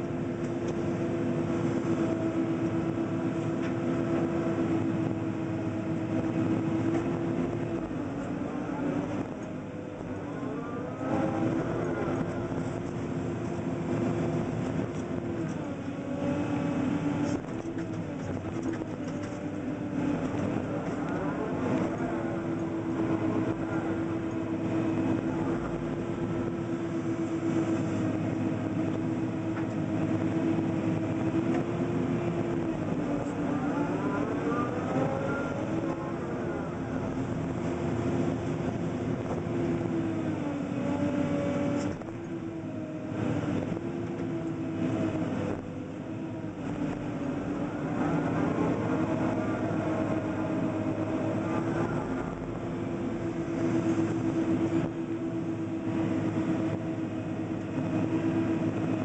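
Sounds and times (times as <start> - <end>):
excavator diesel engine running: 0.0 - 59.0
hydraulic whine: 0.0 - 59.0.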